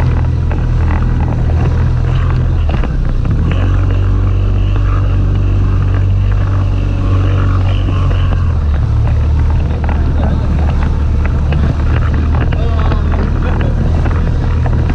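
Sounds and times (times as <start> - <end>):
outboard motor running: 0.0 - 14.9
wind on microphone: 0.0 - 14.9.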